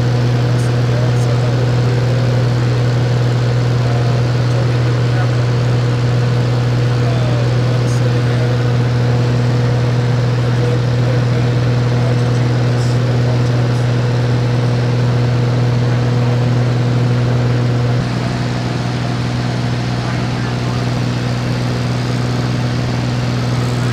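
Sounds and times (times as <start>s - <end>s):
floatplane engine droning: 0.0s - 23.9s.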